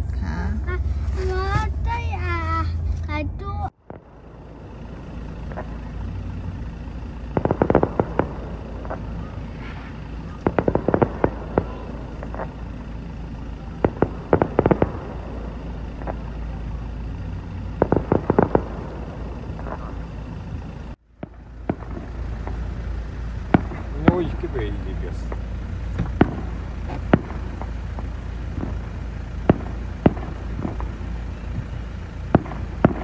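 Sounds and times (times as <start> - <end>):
steady low rumble: 0.0 - 33.0
distant fireworks crackling: 0.2 - 33.0.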